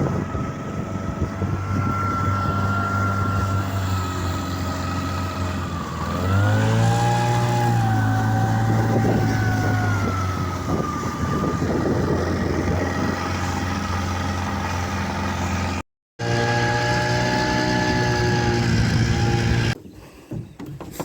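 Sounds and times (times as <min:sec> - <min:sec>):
two-stroke outboard motor running: 0:00.0 - 0:19.8.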